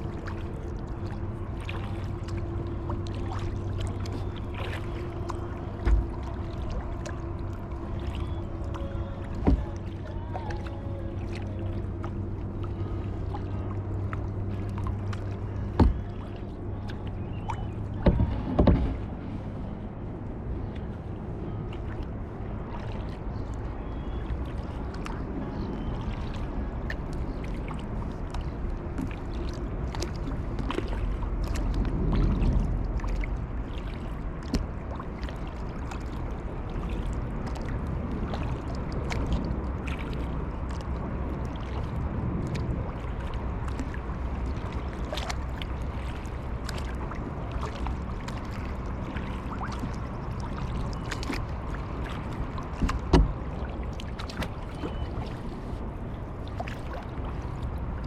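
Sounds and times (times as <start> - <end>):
paddle splashing in water: 0.0 - 58.0
wind rumble on microphone: 0.0 - 58.0.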